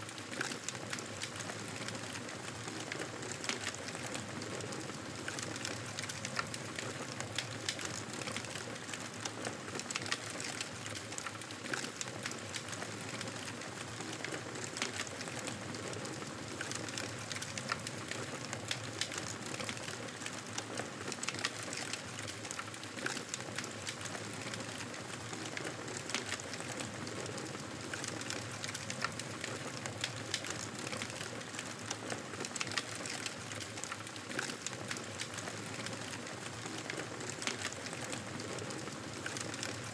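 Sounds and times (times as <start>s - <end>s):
wood crackling and popping: 0.0s - 39.9s.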